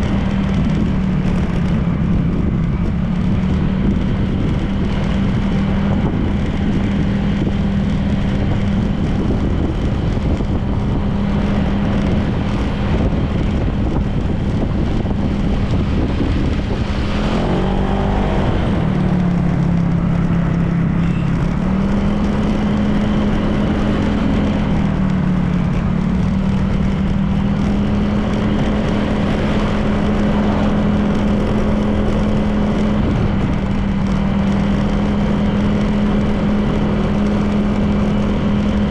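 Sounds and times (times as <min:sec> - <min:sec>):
road noise: 0:00.0 - 0:38.9
scooter engine cruising: 0:00.0 - 0:38.9
wind noise: 0:00.0 - 0:38.9.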